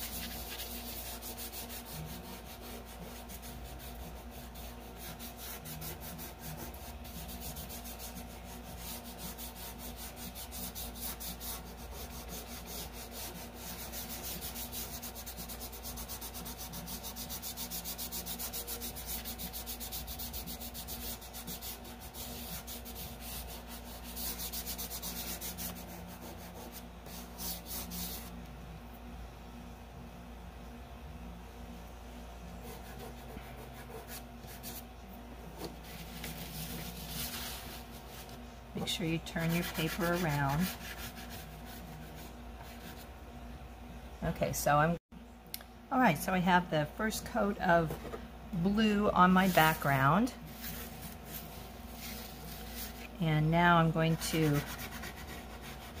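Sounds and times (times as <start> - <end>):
fingertips rubbing chalk on paper: 0.0 - 28.4, 32.6 - 34.9, 35.5 - 43.1, 49.3 - 56.0.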